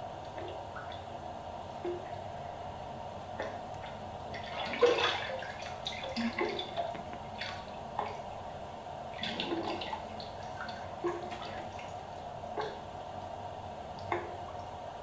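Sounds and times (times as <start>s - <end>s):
steady electronic hum: 0.0s - 15.0s.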